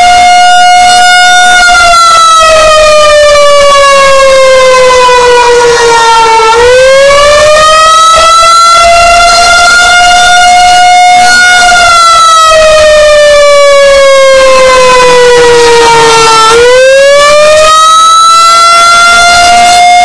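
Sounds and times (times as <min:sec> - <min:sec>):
warning siren: 0:00.0 - 0:20.0.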